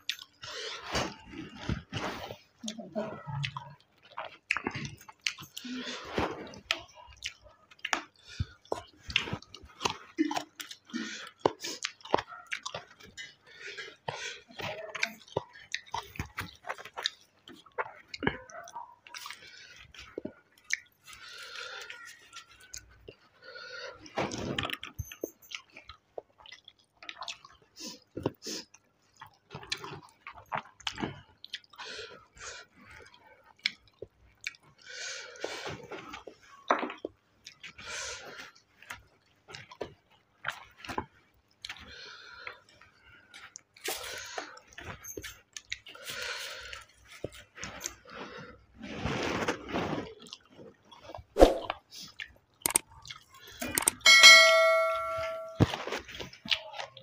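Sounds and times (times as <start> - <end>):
wet chewing and lip-smacking: 0.0 - 48.6, 50.0 - 54.0, 55.9 - 57.0.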